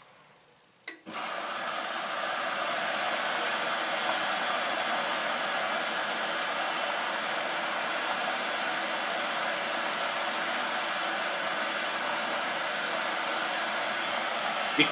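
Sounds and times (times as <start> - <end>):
washing machine filling with water: 1.1 - 14.9.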